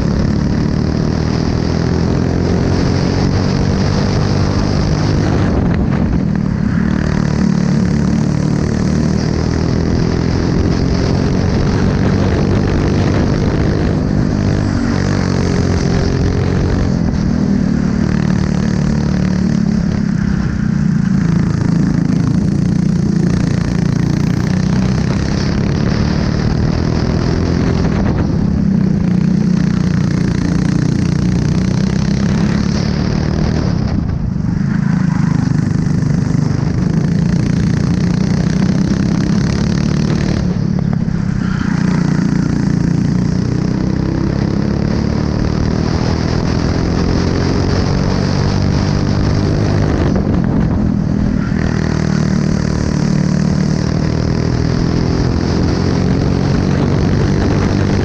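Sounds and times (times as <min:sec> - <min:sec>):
kart engine accelerating: 0:00.0 - 0:58.0.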